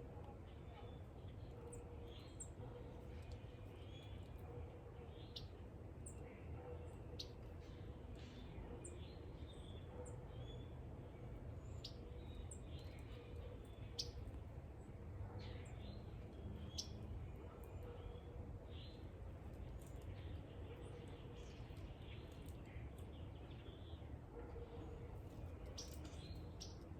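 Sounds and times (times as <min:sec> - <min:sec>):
small birds chirping: 0:00.4 - 0:14.4, 0:15.4 - 0:26.9.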